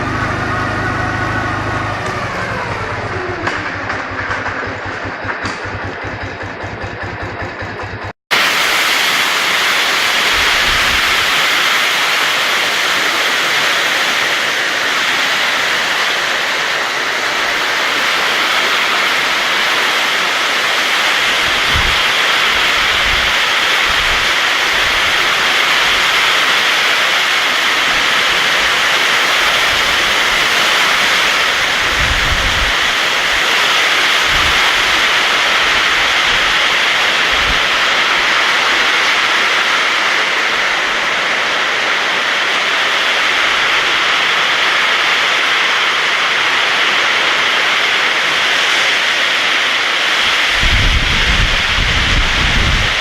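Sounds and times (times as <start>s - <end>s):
heavy rain rushing: 0.0s - 53.0s.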